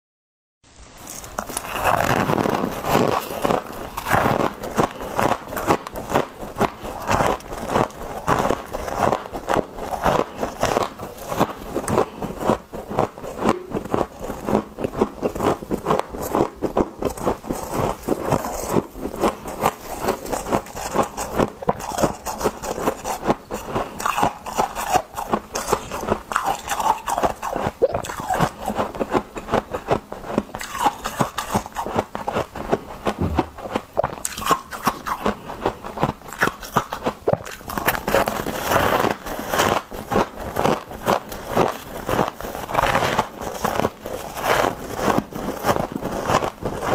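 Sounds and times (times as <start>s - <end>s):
ice being crunched and chewed: 1.0s - 46.9s.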